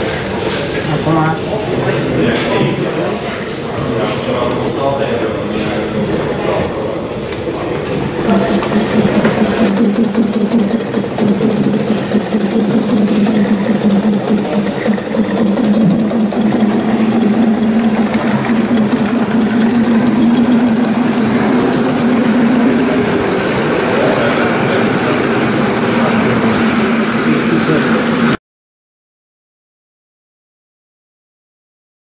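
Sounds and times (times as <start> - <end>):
model steam locomotive chuffing: 0.0 - 28.4
train running over track: 0.0 - 28.4.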